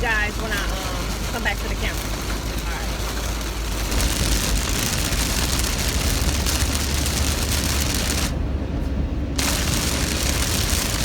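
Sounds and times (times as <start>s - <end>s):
heavy rain on car roof: 0.0s - 8.4s, 9.4s - 11.0s
road noise: 0.0s - 11.0s
deep rumble: 0.2s - 11.0s.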